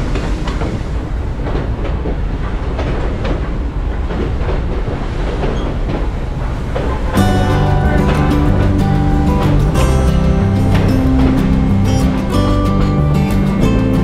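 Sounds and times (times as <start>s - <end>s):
train rolling along track: 0.0s - 14.0s.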